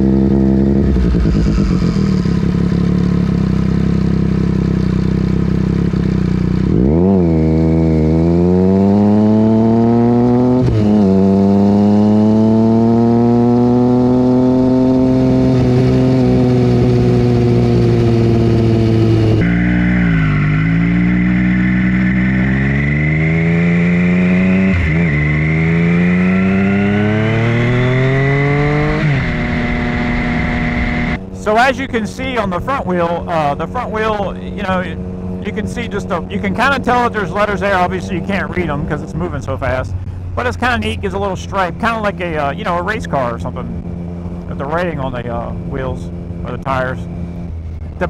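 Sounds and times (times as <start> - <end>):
motorcycle engine accelerating: 0.0 - 48.0
wind and road noise: 0.0 - 48.0.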